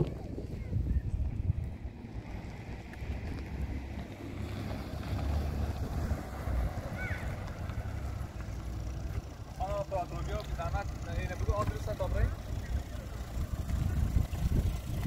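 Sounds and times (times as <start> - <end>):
wind buffeting microphone: 0.0 - 8.4, 11.2 - 15.0.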